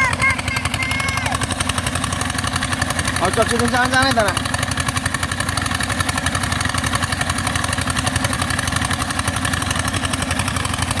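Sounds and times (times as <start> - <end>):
pump engine running: 0.0 - 11.0.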